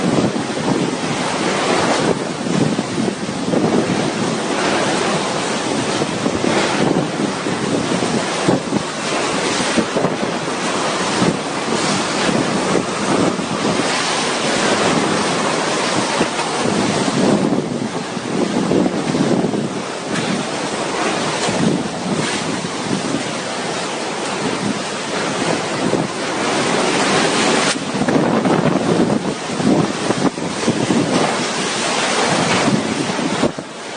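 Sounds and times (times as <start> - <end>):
driving rain: 0.0 - 33.9
wind gusting against microphone: 0.0 - 33.9.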